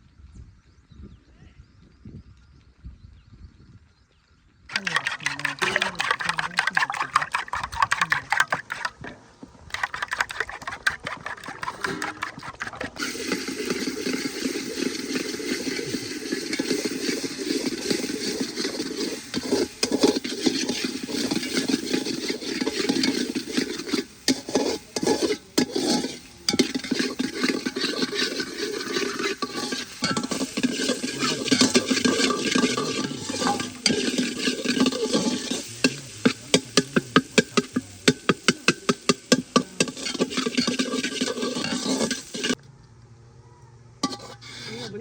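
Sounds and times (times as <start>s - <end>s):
food sizzling in a pot: 4.7s - 42.6s, 44.0s - 45.0s
spoon scraping a pan: 4.7s - 42.6s, 44.0s - 45.0s.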